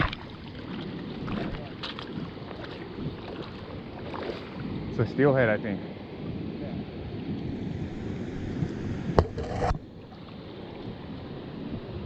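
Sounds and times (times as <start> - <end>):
water noise: 0.0 - 12.0
wind buffeting microphone: 0.0 - 12.0.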